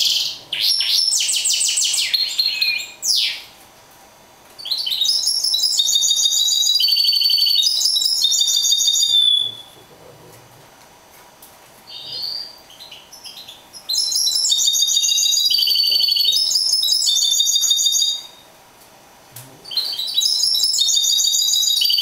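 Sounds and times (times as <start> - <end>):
finch singing trills: 0.0 - 3.5, 4.6 - 9.8, 11.9 - 18.4, 19.7 - 22.0.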